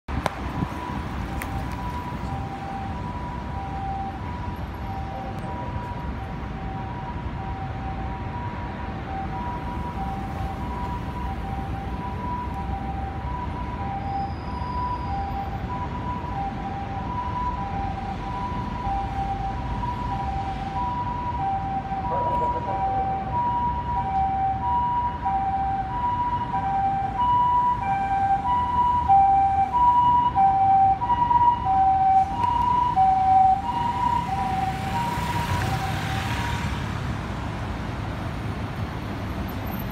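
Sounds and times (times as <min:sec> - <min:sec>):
traffic rumble: 0:00.1 - 0:39.9
two-tone ambulance siren: 0:00.5 - 0:37.5.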